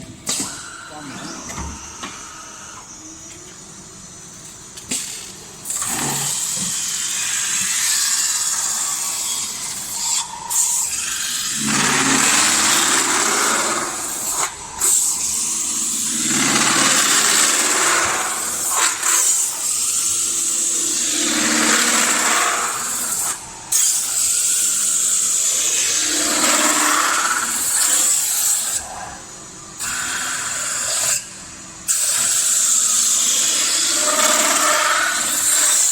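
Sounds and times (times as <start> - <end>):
lathe high whine: 0.4 - 35.9.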